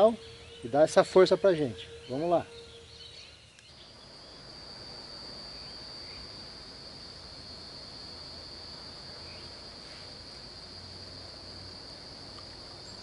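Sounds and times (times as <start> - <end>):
faint outdoor hiss: 0.0 - 13.0
insect high-pitched trill: 0.0 - 13.0.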